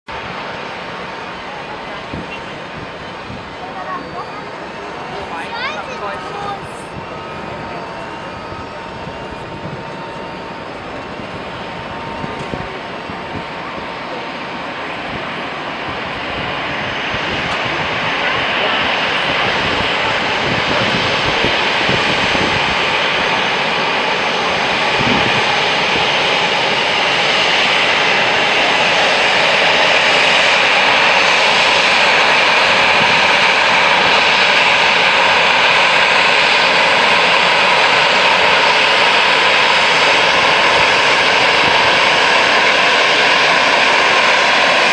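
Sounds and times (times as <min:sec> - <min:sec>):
airliner jet engines: 0:00.1 - 0:44.9.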